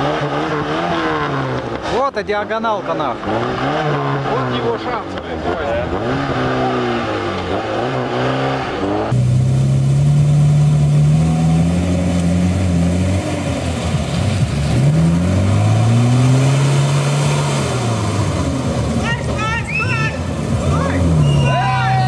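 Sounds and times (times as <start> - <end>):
engine revving hard in mud: 0.0 - 22.0
off-road engine revving: 0.0 - 22.0.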